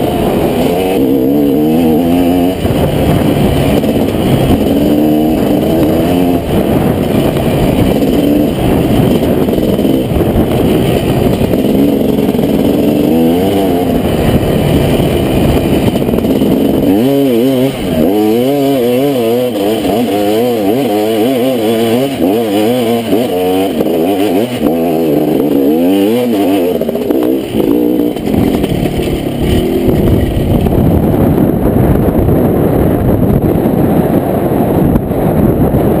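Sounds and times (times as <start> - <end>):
dirt bike engine revving: 0.0 - 32.8.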